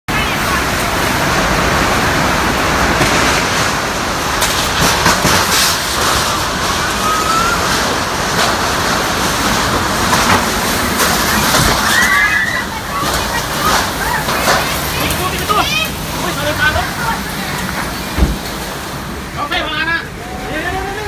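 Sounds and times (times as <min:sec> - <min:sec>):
heavy rain: 0:00.1 - 0:21.0
storm wind: 0:00.1 - 0:21.0.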